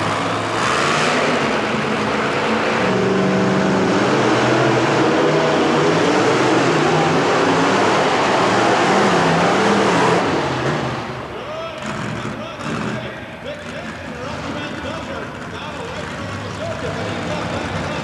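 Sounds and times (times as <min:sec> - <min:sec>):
monster truck engines revving: 0:00.0 - 0:18.0.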